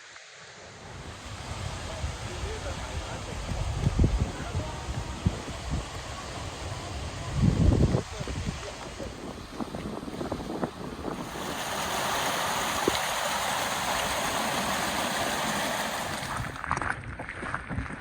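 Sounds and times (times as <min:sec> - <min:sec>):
waterfall rushing water: 0:00.0 - 0:16.6
wind buffeting microphone: 0:00.8 - 0:18.0.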